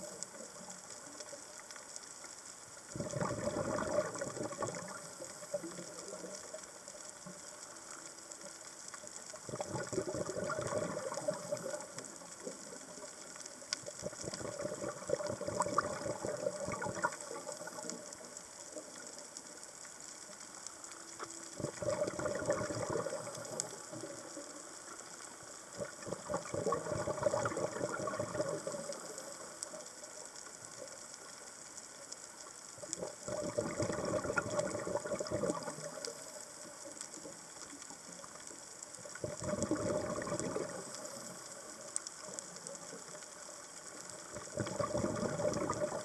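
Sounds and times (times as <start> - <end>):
faint steady crackle: 0.0 - 46.0
exhaled bubbles underwater: 2.8 - 8.1, 9.1 - 19.5, 21.2 - 24.9, 25.6 - 31.2, 32.8 - 46.0.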